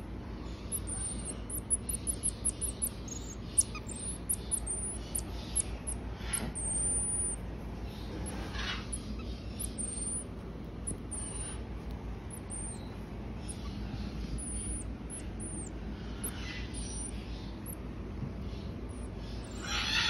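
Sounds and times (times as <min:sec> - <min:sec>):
baby marmosets whistling calls: 0:00.4 - 0:20.0.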